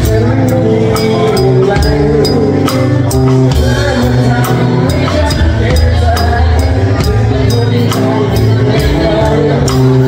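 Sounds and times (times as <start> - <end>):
live band music: 0.0 - 10.0.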